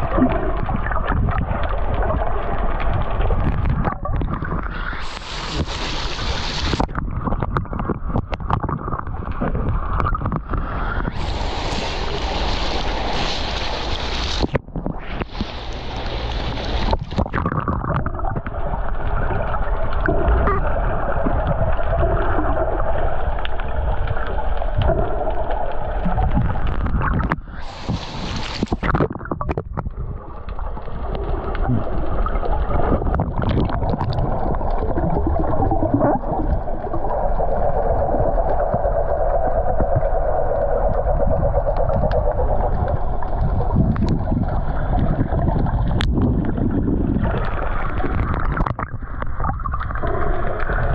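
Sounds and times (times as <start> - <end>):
gurgling underwater noise: 0.0 - 50.9
water splashing: 0.0 - 50.9.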